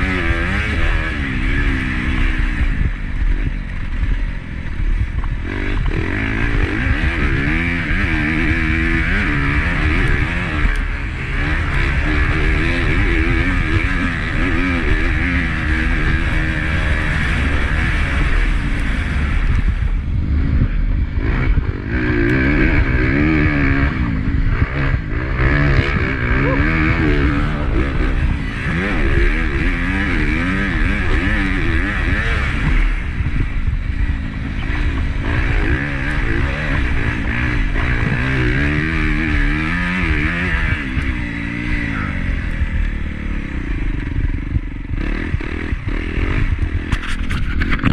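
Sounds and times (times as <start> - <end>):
motocross engine revving: 0.0 - 47.9
wind rushing over camera: 0.0 - 47.9.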